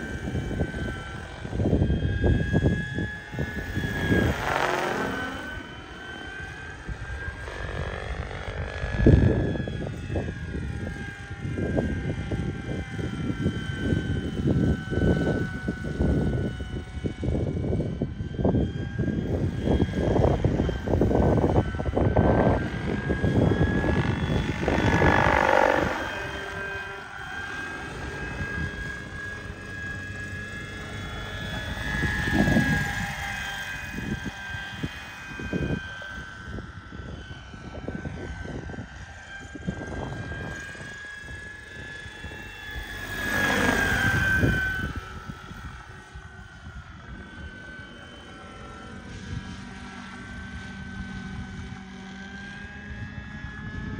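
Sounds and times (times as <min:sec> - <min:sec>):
model helicopter whine and rotor: 0:00.0 - 0:53.9.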